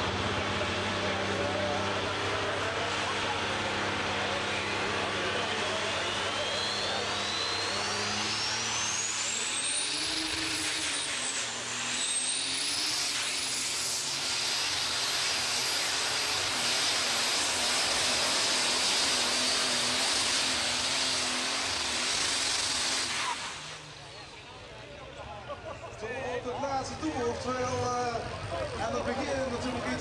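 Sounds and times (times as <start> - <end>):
high turbo whine: 0.0 - 24.8
diesel tractor engine at full power: 0.0 - 25.4.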